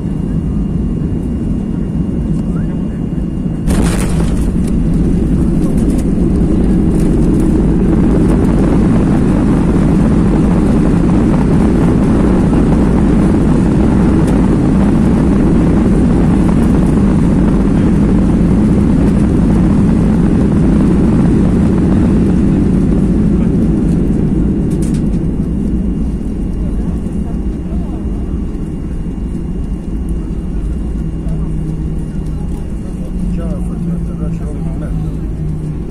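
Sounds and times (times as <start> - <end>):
jet engine noise: 0.0 - 35.9
runway rumble: 0.0 - 35.9.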